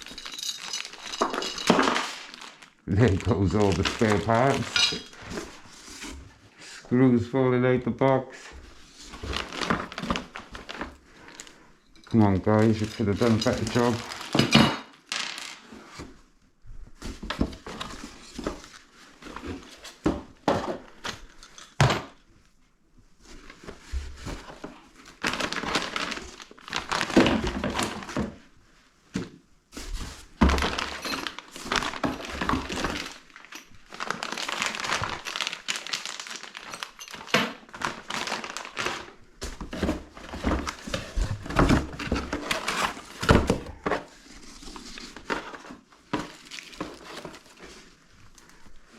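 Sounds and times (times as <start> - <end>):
cardboard and packaging rustling: 0.0 - 6.6, 8.4 - 48.9.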